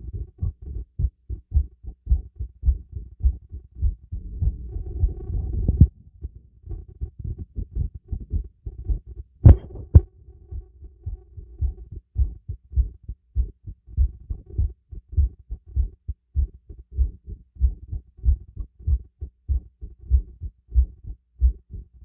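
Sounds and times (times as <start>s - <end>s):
heartbeat through stethoscope: 0.0s - 22.0s.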